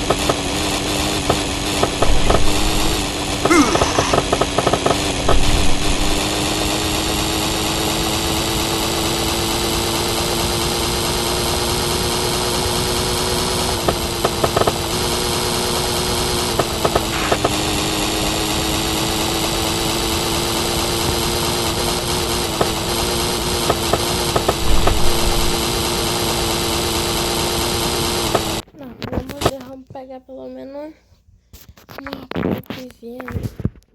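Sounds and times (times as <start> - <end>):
moped engine running hard: 0.0 - 28.7.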